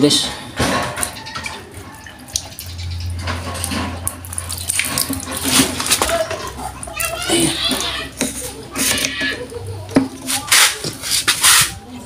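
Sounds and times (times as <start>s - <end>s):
water running into a pipe: 1.0s - 11.8s.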